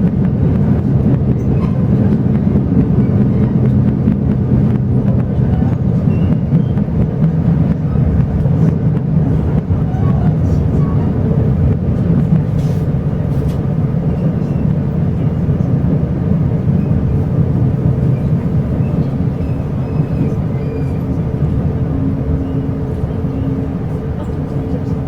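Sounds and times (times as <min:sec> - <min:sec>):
train carriage rumbling on track: 0:00.0 - 0:25.0.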